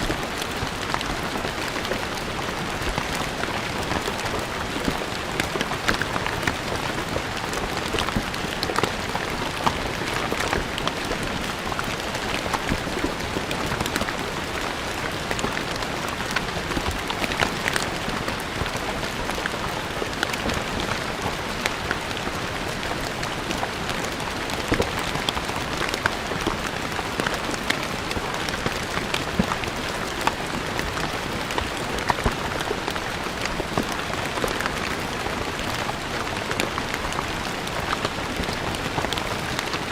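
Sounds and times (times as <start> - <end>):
rain on stone floor: 0.0 - 39.9.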